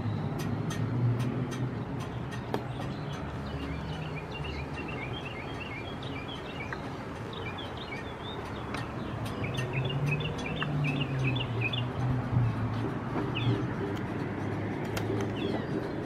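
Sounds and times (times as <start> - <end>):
small birds twittering: 1.7 - 14.0, 15.0 - 16.0.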